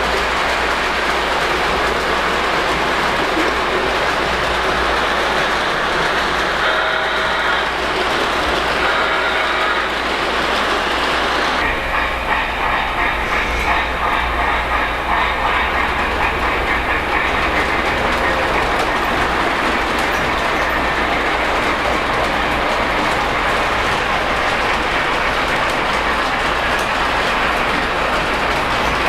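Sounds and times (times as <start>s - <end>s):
model train wheels clickety-clack: 0.0s - 29.0s.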